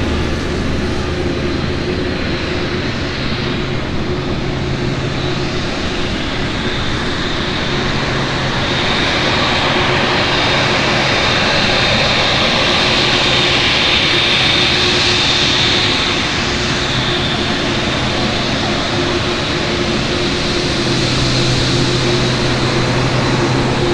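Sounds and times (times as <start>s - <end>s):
jet airliner engine whine: 0.0s - 23.9s.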